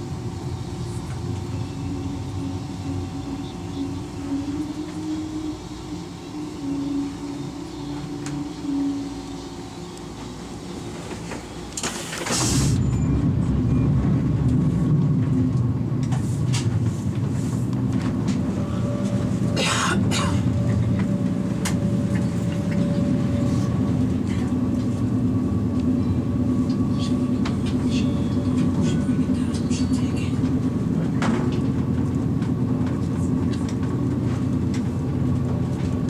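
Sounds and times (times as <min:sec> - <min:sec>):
freight train rumbling past: 0:00.0 - 0:36.0
train passing whoosh: 0:00.0 - 0:36.0
train running noise: 0:00.0 - 0:36.0.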